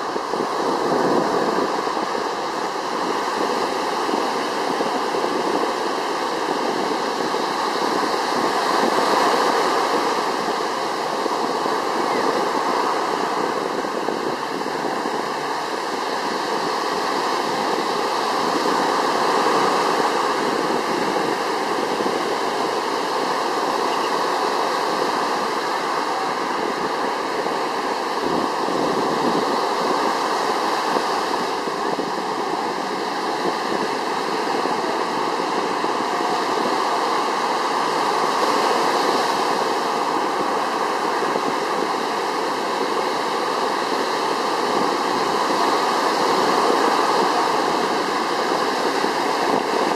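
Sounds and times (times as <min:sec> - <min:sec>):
surf washing onto beach: 0:00.0 - 0:49.9.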